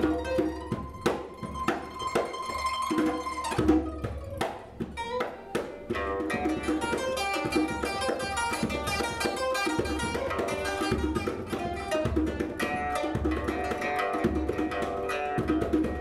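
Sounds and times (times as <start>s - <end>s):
plucked lute notes: 0.0s - 16.0s.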